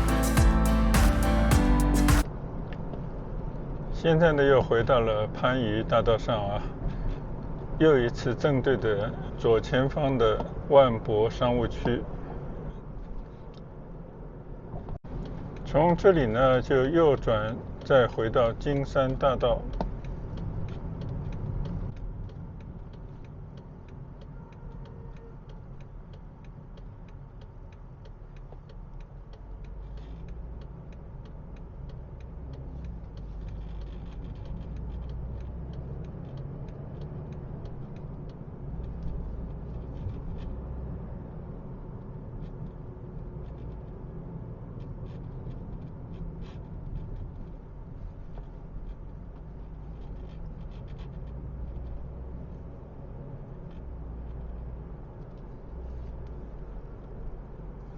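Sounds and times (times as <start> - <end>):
car cabin road and engine rumble: 0.0 - 57.9.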